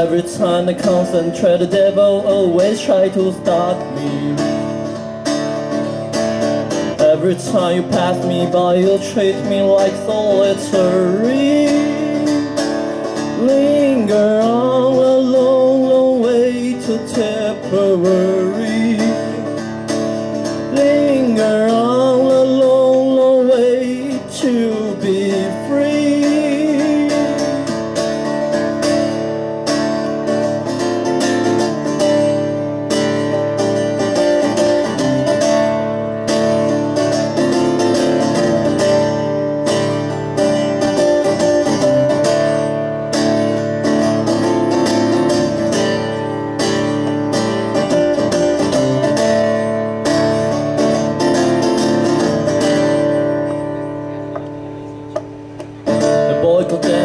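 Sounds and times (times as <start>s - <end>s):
guitar strumming: 0.0s - 57.0s.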